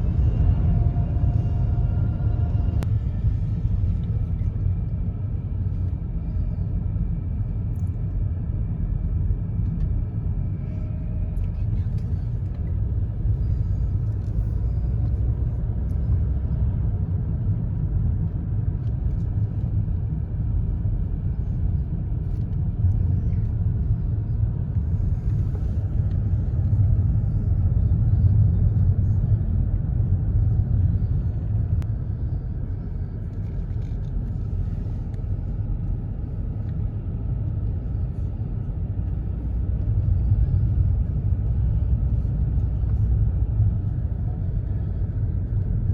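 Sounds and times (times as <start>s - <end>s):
car driving rumble: 0.0s - 45.9s.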